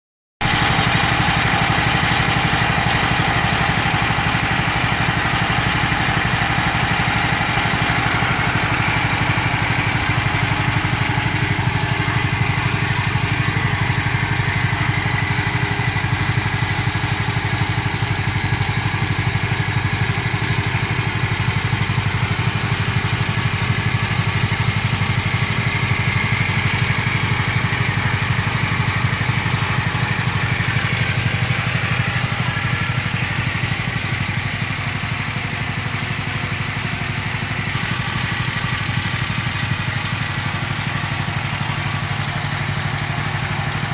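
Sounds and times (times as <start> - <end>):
small engine running steadily: 0.4 - 43.9.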